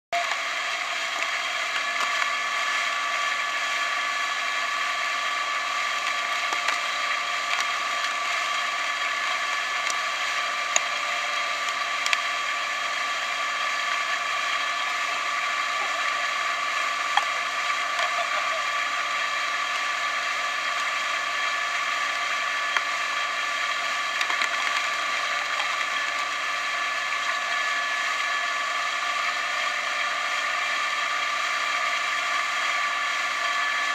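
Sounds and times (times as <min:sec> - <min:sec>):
mechanical whir: 0:00.2 - 0:33.9.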